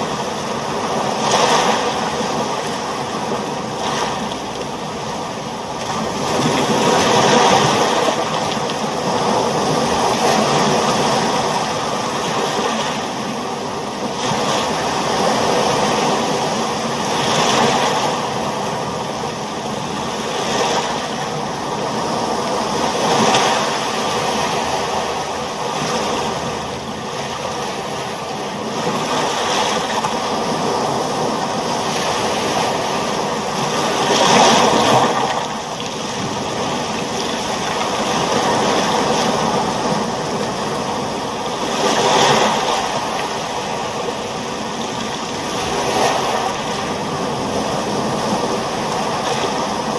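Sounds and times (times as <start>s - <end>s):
ocean waves washing in: 0.0s - 49.9s.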